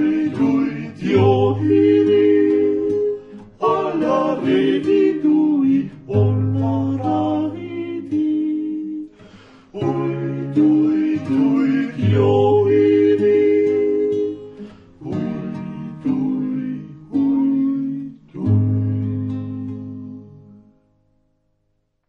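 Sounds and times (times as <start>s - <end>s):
acoustic guitar strummed chords: 0.0s - 21.5s.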